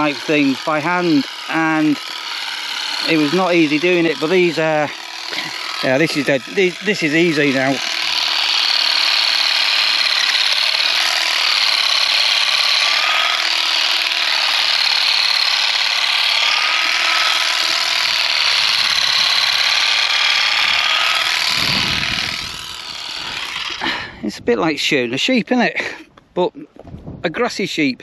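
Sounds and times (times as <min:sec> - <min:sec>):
power shears motor whine: 0:00.0 - 0:24.2.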